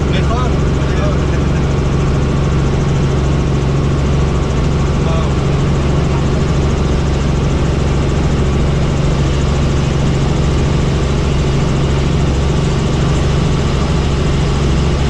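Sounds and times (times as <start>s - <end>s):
helicopter engine and rotors: 0.0s - 15.0s.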